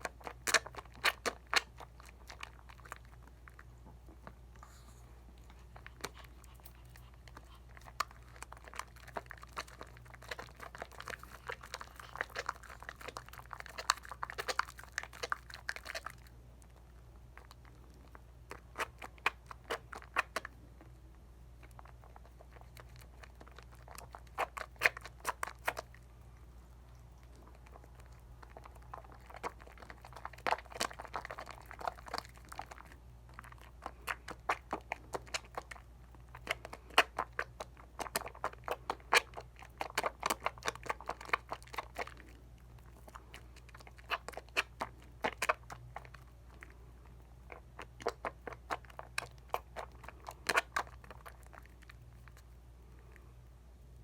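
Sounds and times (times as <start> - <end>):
soap lather squishing by hand: 0.0 - 53.4.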